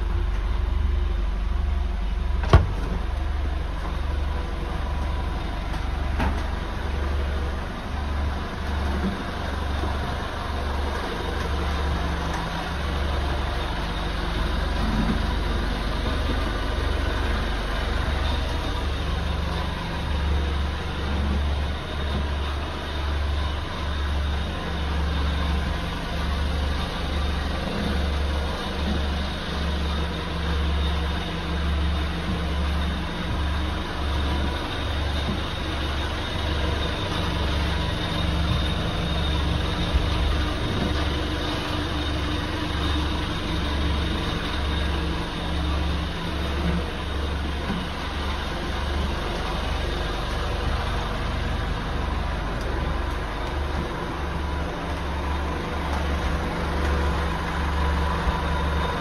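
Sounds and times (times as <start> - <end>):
motor throbbing and humming: 0.0 - 59.0.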